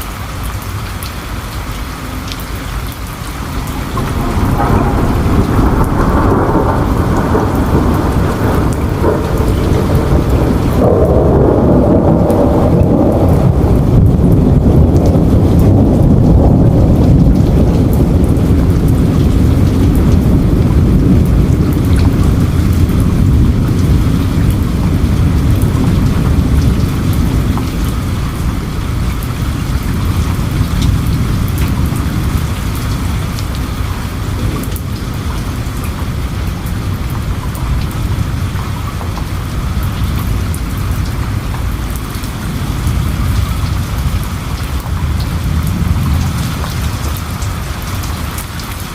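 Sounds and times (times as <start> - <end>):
heavy rain falling: 0.0 - 48.9
low rumble of thunder: 0.0 - 48.9
ticks of raindrops: 0.0 - 48.9.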